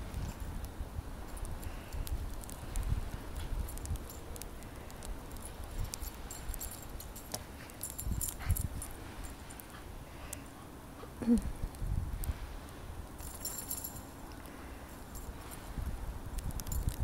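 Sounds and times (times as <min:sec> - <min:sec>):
light clicks and jingles: 0:00.0 - 0:17.0.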